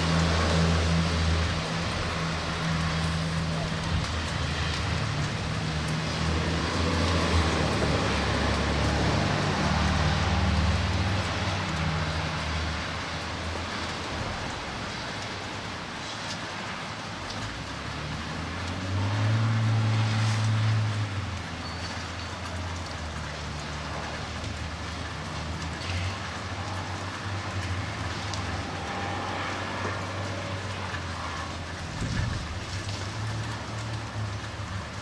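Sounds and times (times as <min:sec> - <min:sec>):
freezing rain patter: 0:00.0 - 0:35.0
passing vehicles rumbling: 0:00.0 - 0:35.0.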